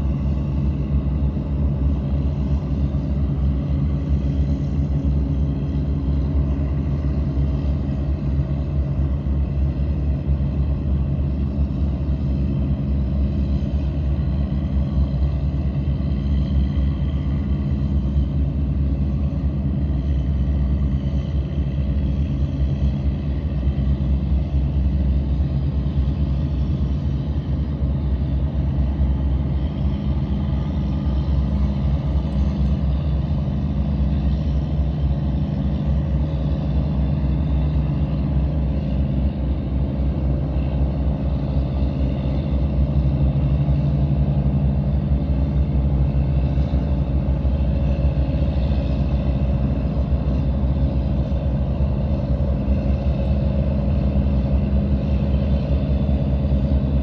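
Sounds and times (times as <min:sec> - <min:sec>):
boat diesel engines droning: 0:00.0 - 0:57.0.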